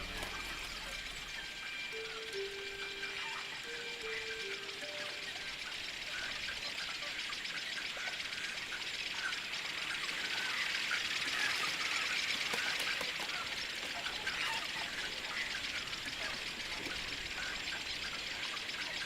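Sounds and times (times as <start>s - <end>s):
many birds chirping: 0.0s - 19.0s.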